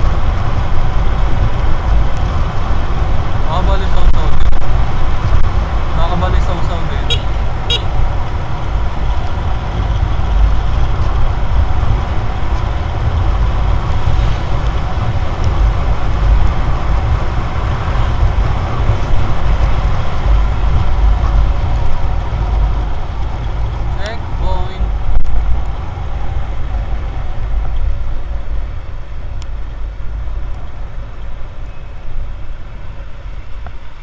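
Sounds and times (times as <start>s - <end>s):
motorcycle engine: 0.0s - 34.0s
road noise: 0.0s - 34.0s
wind buffeting microphone: 0.0s - 34.0s.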